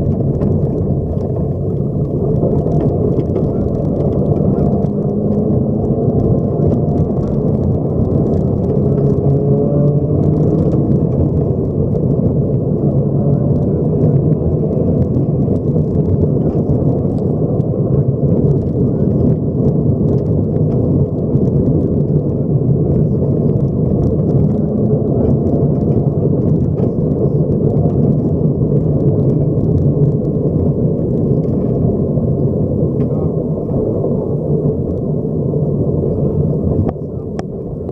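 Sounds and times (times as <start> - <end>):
car engine pulling hard: 0.0 - 37.9
tyres rumbling on gravel: 0.0 - 37.9.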